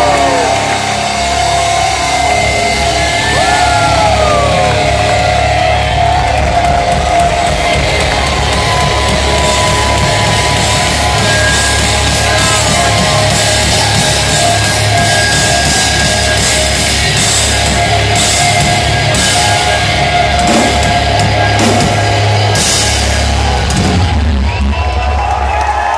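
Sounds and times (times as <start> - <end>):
live band playing heavy rock: 0.0 - 25.9.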